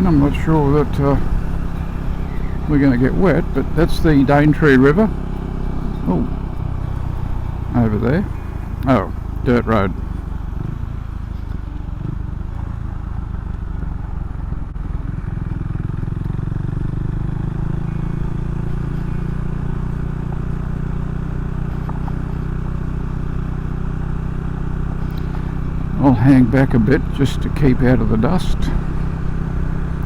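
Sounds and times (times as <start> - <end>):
motorcycle engine drone: 0.0 - 30.0
wind: 0.0 - 30.0.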